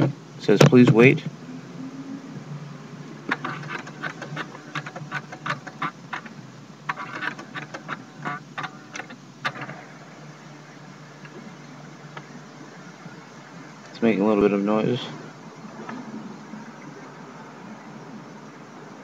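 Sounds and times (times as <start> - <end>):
low steady hum: 0.0 - 19.0
fax machine clicking and whirring: 3.0 - 19.0.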